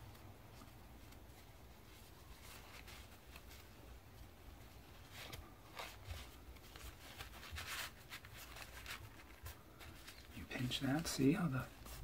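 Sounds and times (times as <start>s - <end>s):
low steady hum: 0.0s - 12.0s
paper napkin crinkling: 0.0s - 12.0s.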